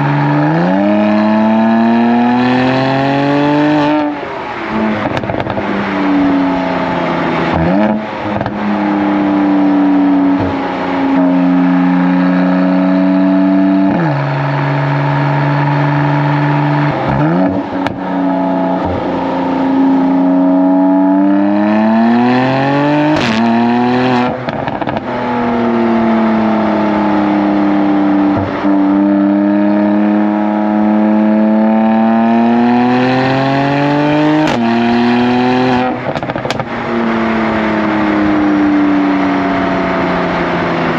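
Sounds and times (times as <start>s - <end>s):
car exhaust revving: 0.0s - 40.9s.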